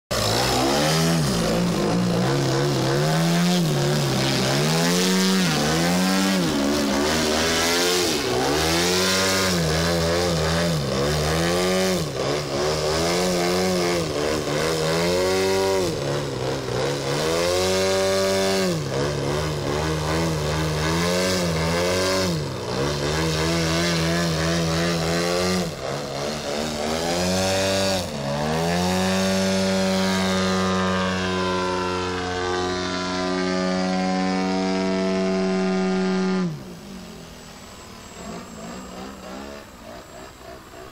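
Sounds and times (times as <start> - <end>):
model plane engine revving: 0.1 - 40.9.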